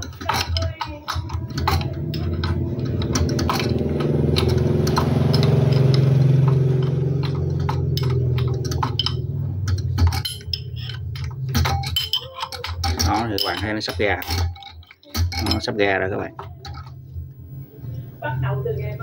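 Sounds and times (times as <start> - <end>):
metal tools clicking and clinking: 0.0 - 17.5
steady low hum: 0.0 - 19.0.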